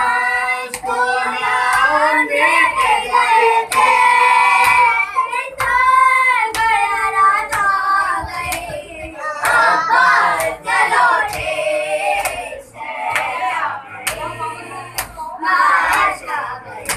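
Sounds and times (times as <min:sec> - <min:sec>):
girls singing a lament: 0:00.0 - 0:16.9.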